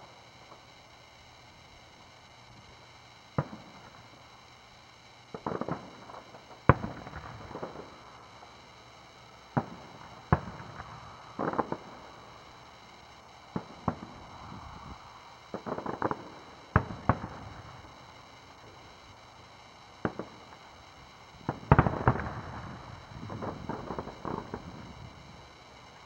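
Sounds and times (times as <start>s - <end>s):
firework bangs: 0.0s - 19.0s, 19.9s - 26.0s
rapid firework pops: 0.0s - 26.0s.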